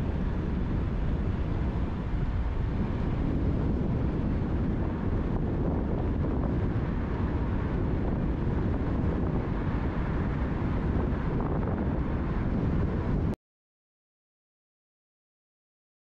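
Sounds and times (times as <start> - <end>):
vehicle road and wind noise: 0.0 - 13.4.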